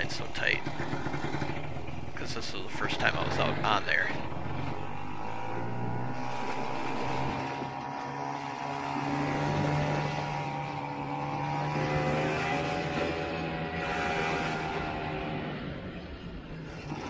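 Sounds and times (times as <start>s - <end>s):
snowmobile engine drone: 0.0s - 17.0s.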